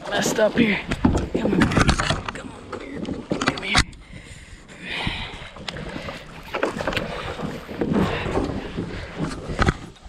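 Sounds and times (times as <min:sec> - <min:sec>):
knocks and scrapes in kayak: 0:00.0 - 0:10.0
water sloshing: 0:00.0 - 0:10.0.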